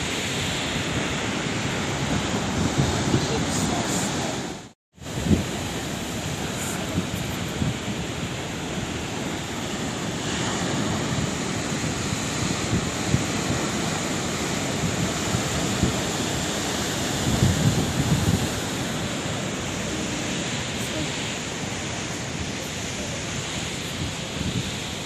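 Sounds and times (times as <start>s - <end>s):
surf rushing on shore: 0.0s - 25.0s
wind on microphone: 0.0s - 25.0s.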